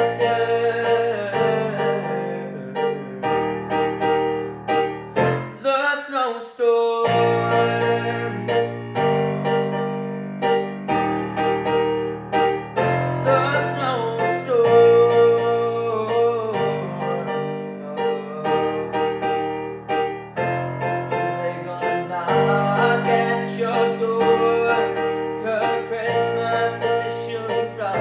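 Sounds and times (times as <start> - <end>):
slow piano chords: 0.0 - 5.9, 7.0 - 28.0.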